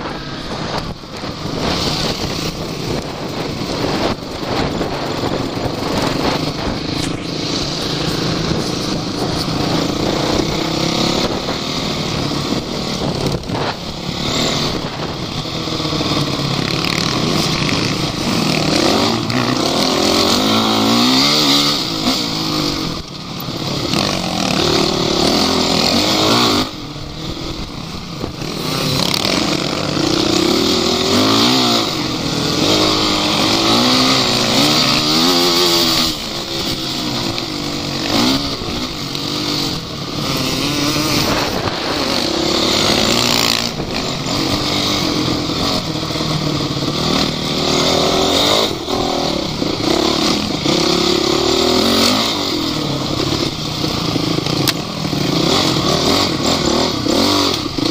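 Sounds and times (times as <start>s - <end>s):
off-road vehicle engines revving: 0.0s - 57.9s.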